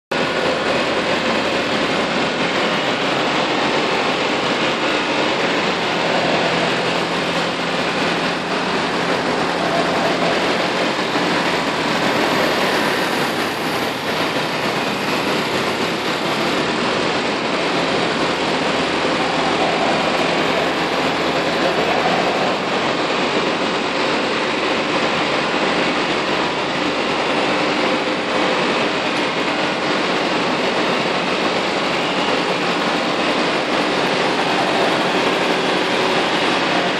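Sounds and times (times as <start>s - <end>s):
truck engine running: 0.1s - 36.9s.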